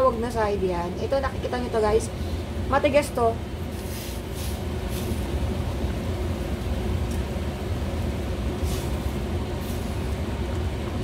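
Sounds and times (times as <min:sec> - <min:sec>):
kitchen background rumble: 0:00.0 - 0:11.0.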